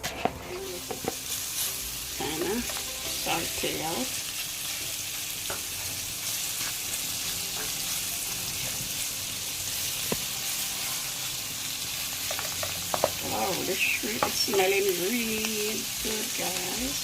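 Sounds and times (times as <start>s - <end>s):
shrimp sizzling in hot oil: 0.0s - 17.0s.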